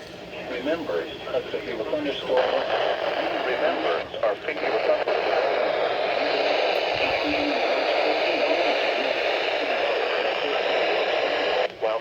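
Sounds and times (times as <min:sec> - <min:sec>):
radio static hiss: 0:00.3 - 0:12.0.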